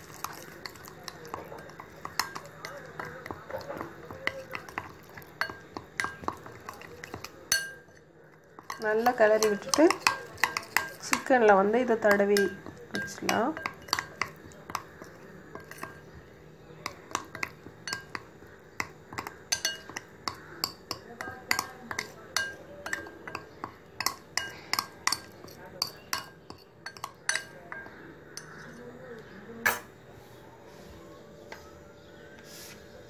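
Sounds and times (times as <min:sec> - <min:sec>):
spoon scraping against plate: 0:00.0 - 0:28.9.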